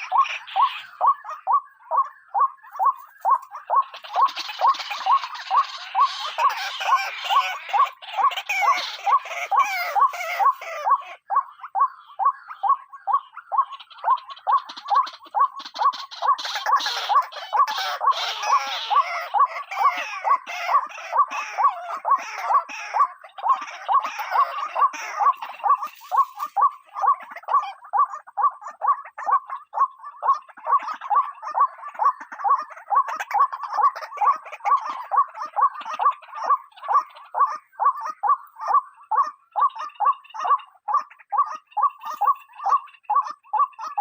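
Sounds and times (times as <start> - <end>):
harsh overlapping bird calls: 0.0 - 44.0
waterhen croaking calls: 0.0 - 44.0.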